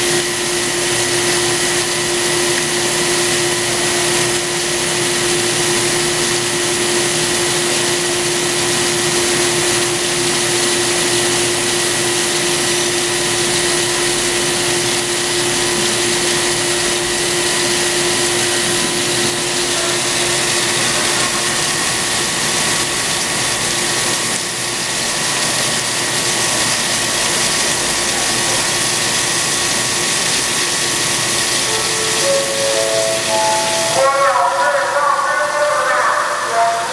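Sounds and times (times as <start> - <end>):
grinding machine whine: 0.0 - 35.3
coolant splashing: 0.0 - 36.9.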